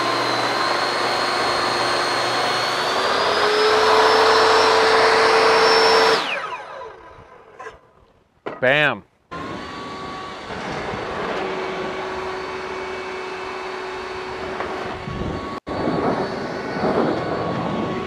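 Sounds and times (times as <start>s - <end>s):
table saw running: 0.0s - 7.6s, 9.3s - 18.0s.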